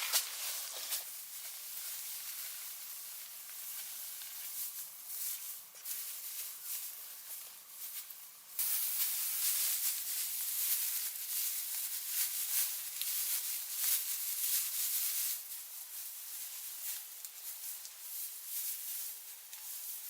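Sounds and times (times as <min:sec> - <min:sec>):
dry rustling and crackling: 0:00.0 - 0:20.0.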